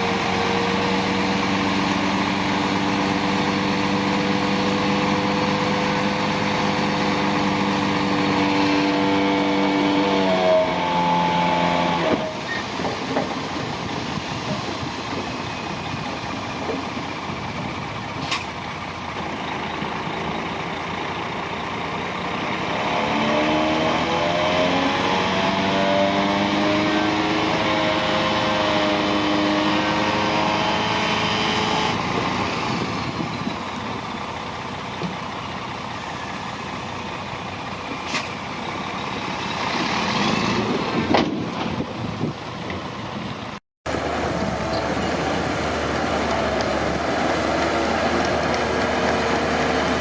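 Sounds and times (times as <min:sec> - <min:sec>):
diesel machine engine running: 0:00.0 - 0:30.2, 0:30.8 - 0:50.0.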